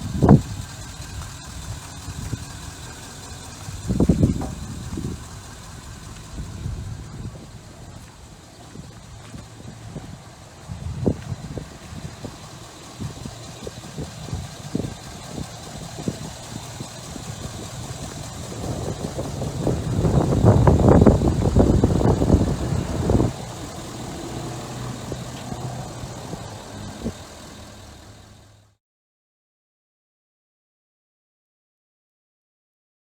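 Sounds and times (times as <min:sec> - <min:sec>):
diesel engine idling and revving: 0:00.0 - 0:28.8.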